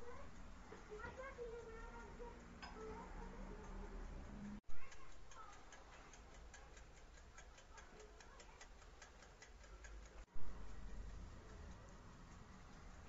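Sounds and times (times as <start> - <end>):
mechanical timer ticking: 0.0 - 13.0.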